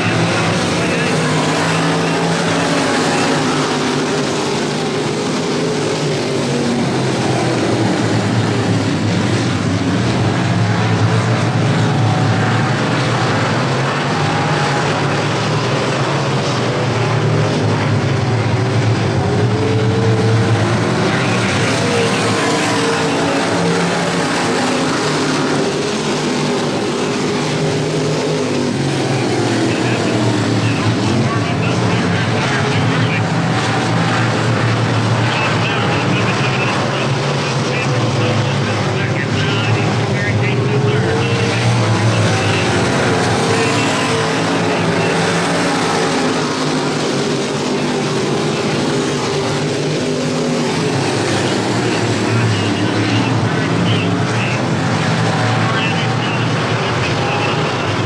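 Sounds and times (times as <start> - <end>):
stock car engines racing: 0.0 - 58.0.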